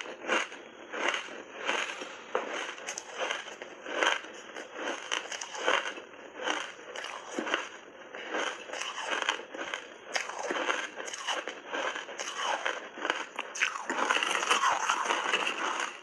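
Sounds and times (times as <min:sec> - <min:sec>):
ice being chewed crunching: 0:00.0 - 0:16.0.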